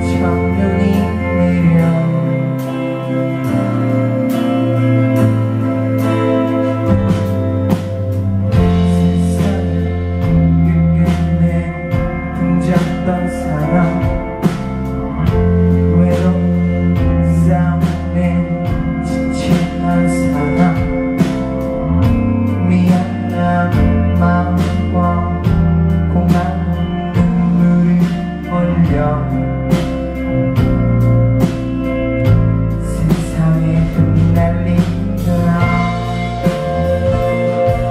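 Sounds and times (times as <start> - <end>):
bass: 0.0 - 37.9
drums: 0.0 - 37.9
guitar chords: 0.0 - 37.9.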